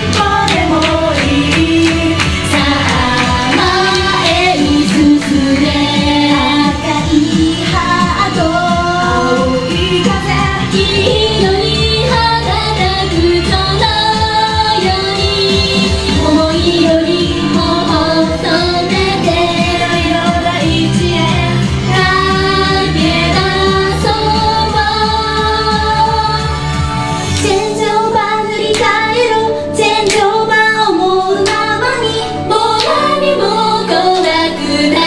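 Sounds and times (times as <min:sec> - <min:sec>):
backing track with steady beat: 0:00.0 - 0:29.2
female group singing pop: 0:00.0 - 0:35.0.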